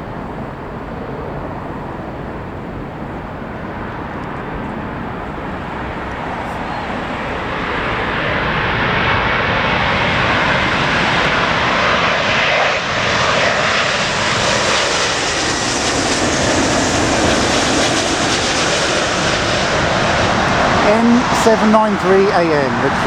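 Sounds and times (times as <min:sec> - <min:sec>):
jet airliner engine roar: 0:00.0 - 0:23.0.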